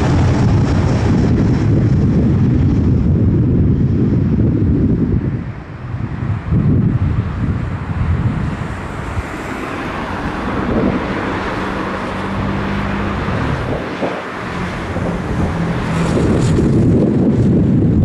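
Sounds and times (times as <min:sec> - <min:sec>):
jet engine noise: 0:00.0 - 0:18.0
wind buffeting microphone: 0:00.0 - 0:18.0.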